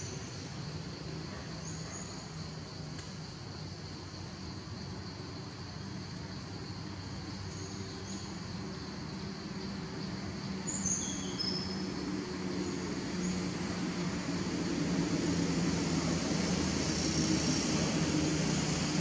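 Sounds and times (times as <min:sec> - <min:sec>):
outdoor background hum: 0:00.0 - 0:19.0.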